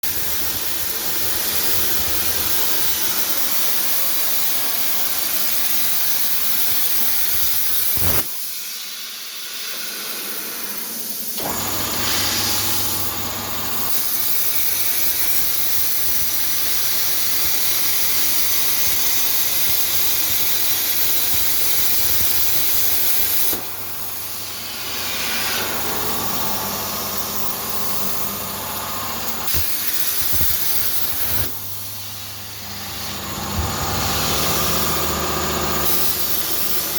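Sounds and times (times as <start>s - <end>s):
loud steady hiss: 0.0s - 36.9s.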